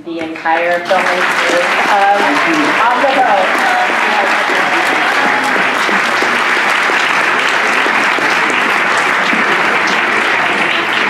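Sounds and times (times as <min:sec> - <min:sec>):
audience applauding: 0:00.2 - 0:11.0.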